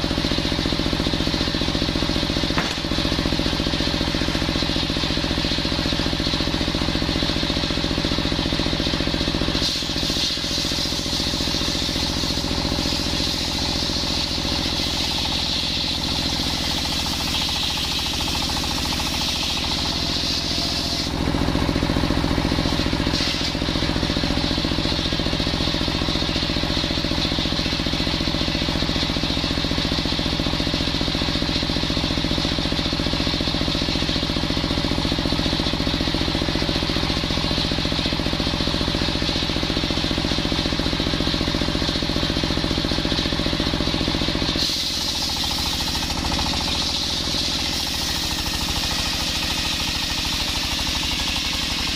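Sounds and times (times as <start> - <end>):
circular saw cutting log: 0.0 - 51.9
drive engine running: 0.0 - 51.9.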